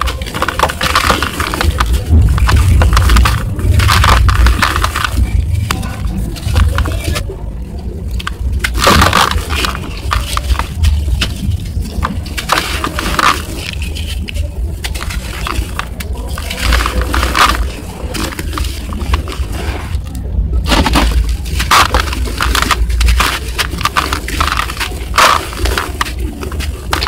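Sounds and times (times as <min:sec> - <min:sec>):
crumbs falling on dirt: 0:00.0 - 0:27.0
dry dirt crunching by hand: 0:00.0 - 0:27.0
steady low rumble: 0:00.0 - 0:27.0.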